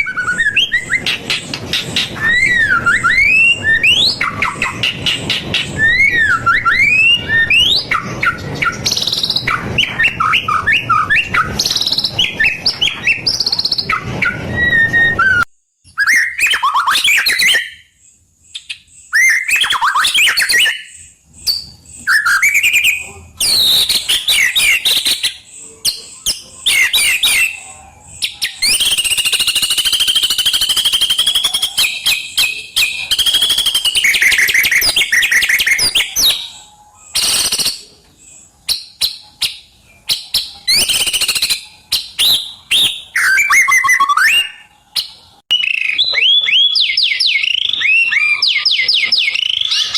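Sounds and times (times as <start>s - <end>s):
bird singing whistled phrases: 0.0s - 37.9s, 38.6s - 49.9s.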